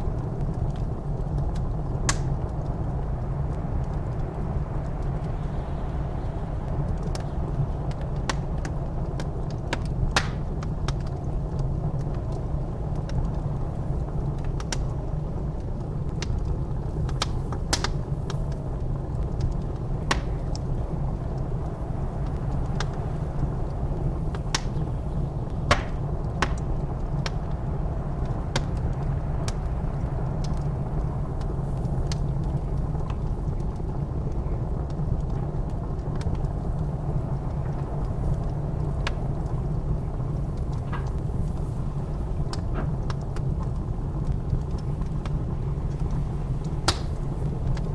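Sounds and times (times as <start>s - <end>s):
blizzard wind rumble: 0.0s - 47.9s
wood fire crackling: 0.0s - 47.9s.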